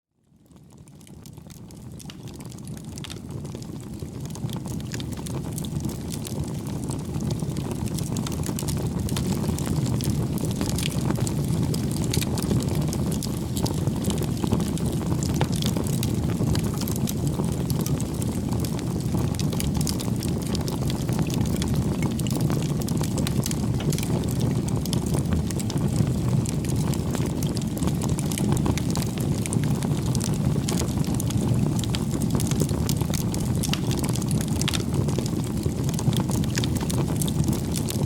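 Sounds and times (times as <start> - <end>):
wood crackling and popping: 0.6 - 38.0
fire rumbling: 0.8 - 38.0.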